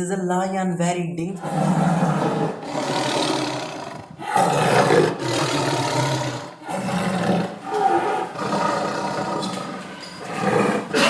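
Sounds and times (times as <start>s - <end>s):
lion roaring: 1.4s - 11.0s.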